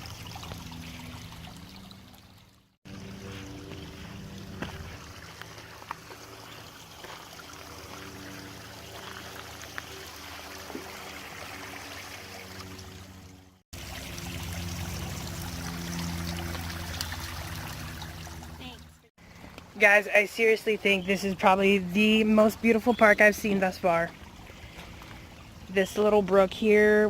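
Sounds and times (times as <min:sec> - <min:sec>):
brook trickling over waterfalls: 0:00.0 - 0:27.0.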